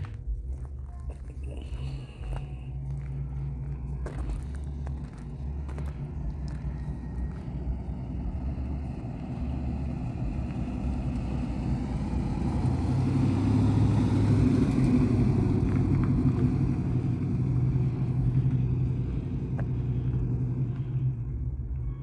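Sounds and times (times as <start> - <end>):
car engine driving by: 0.0 - 22.0.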